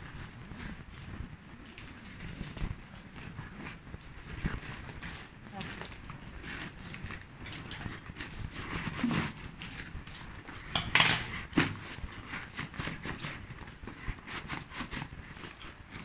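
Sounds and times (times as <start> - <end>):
umbrellas rustling against cardboard: 0.0 - 16.0.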